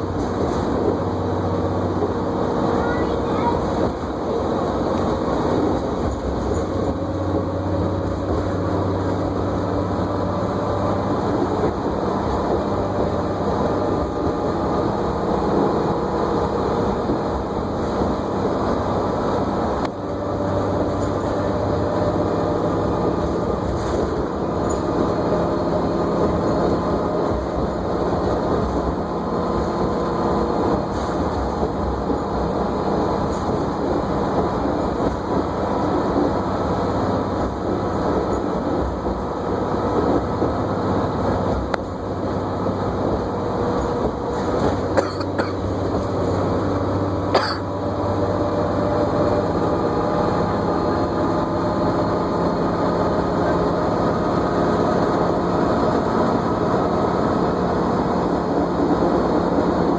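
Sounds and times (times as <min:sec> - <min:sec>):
bus drivetrain whine: 0:00.0 - 0:59.9
road noise: 0:00.0 - 0:59.9.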